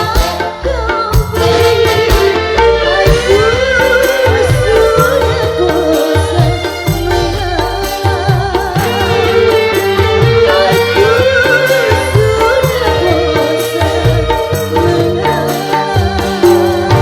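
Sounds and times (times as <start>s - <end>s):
band playing ornamented melody: 0.0s - 17.0s
bass line: 0.0s - 17.0s
hand drum beats: 0.0s - 17.0s.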